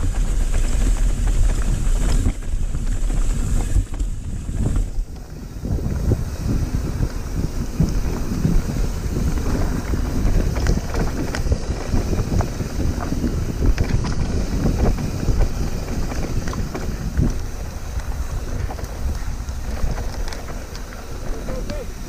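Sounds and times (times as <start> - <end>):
bike clicks and rattles: 0.0 - 22.0
tyres rumbling on dirt: 0.0 - 22.0
wind buffeting microphone: 0.0 - 22.0.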